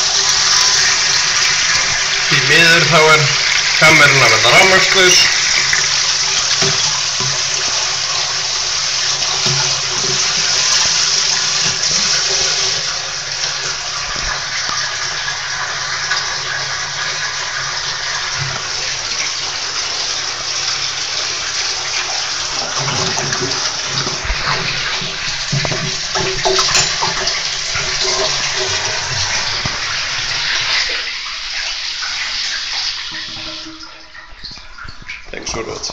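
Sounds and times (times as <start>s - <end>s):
washing machine hum: 0.0s - 35.9s
water churning in washing machine: 0.0s - 35.9s.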